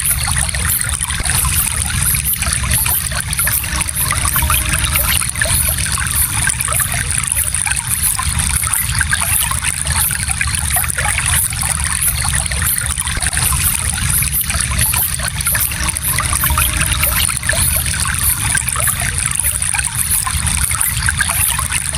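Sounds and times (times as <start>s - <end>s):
stream babbling over stones: 0.0s - 21.9s.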